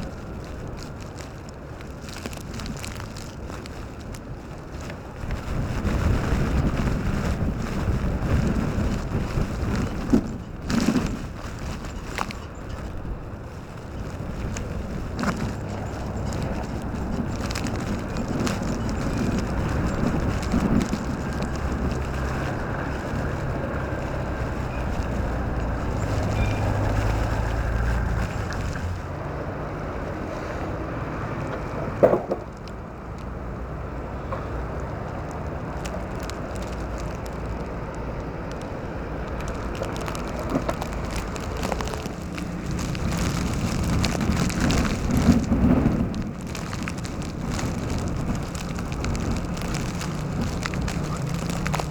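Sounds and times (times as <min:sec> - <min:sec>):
vehicle traffic hum: 0:00.0 - 0:51.9
wind blowing on microphone: 0:00.0 - 0:51.9.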